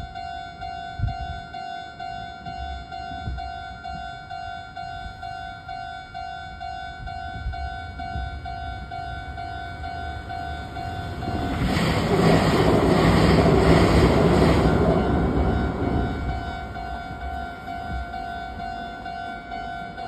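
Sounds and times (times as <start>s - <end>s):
train passing: 0.0s - 20.0s.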